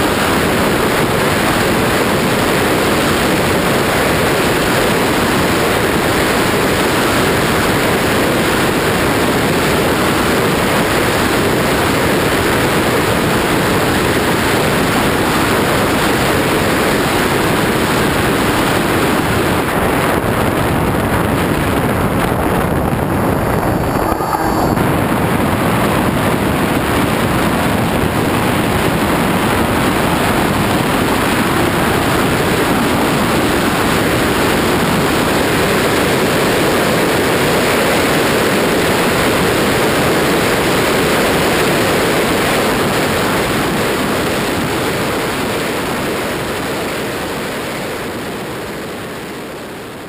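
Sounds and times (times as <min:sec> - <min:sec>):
wind rushing on microphone: 0:00.0 - 0:49.4.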